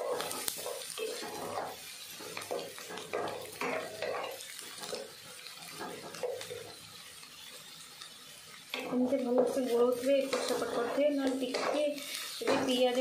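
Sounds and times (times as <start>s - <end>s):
onions sizzling in oil: 0.0s - 13.0s
spatula scraping wok: 0.0s - 13.0s.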